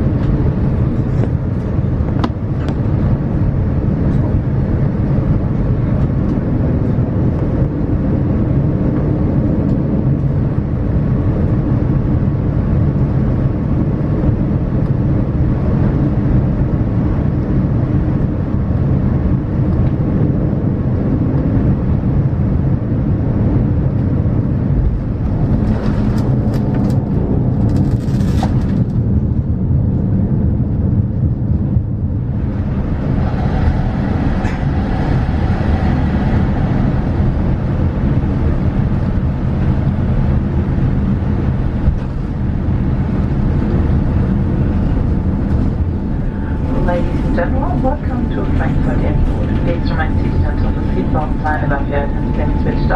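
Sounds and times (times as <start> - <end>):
airplane cabin rumble: 0.0 - 52.9.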